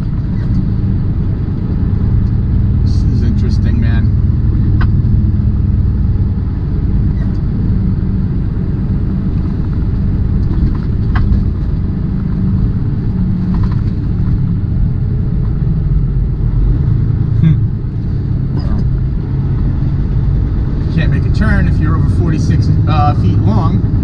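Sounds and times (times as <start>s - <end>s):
truck diesel engine and road noise: 0.0s - 24.0s.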